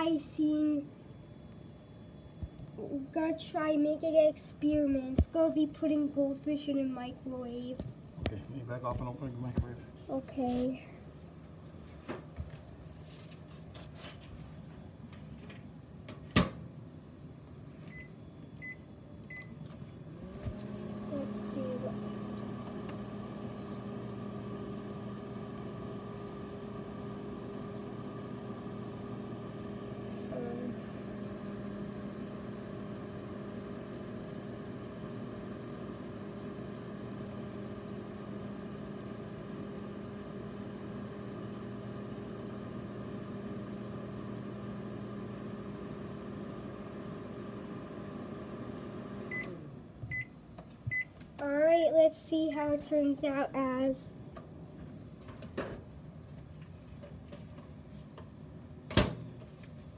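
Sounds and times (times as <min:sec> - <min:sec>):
microwave oven humming: 0:00.0 - 0:09.8, 0:14.8 - 0:56.4.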